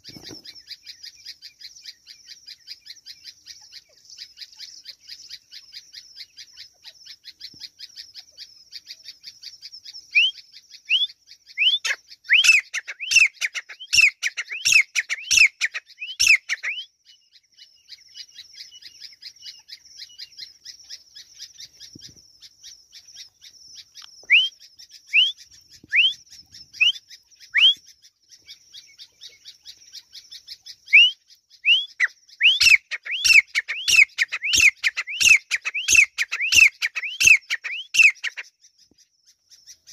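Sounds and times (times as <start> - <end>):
francolin whistled calls: 0.0 - 39.9.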